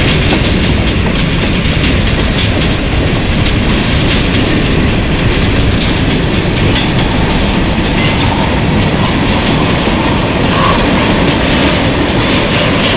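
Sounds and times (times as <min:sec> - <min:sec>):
steel wheels on rails: 0:00.0 - 0:12.9.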